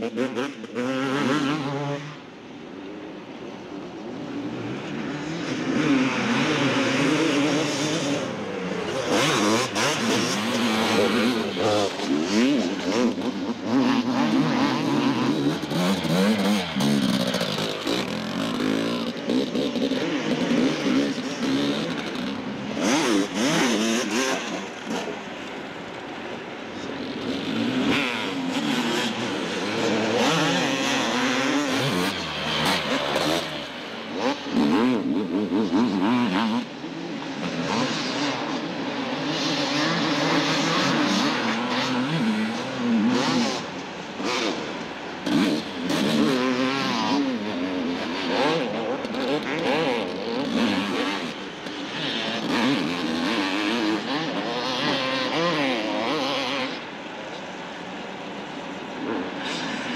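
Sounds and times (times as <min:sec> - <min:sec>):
two-stroke engine revving: 0:05.6 - 0:25.3, 0:26.8 - 0:56.8.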